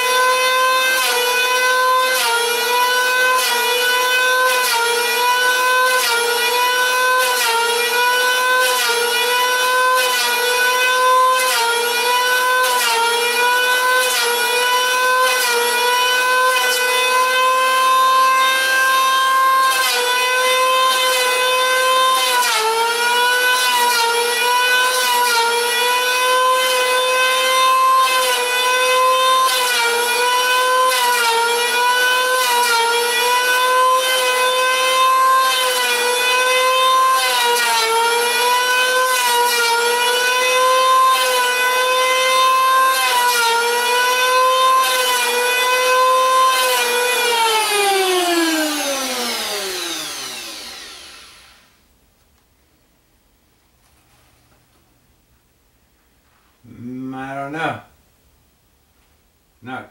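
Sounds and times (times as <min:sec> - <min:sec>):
electric hand planer whining: 0:00.0 - 0:51.8.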